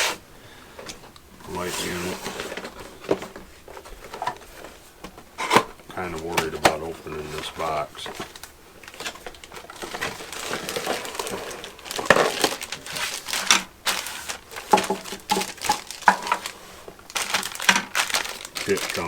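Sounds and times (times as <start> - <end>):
packaging crinkling and rustling: 0.7 - 19.0.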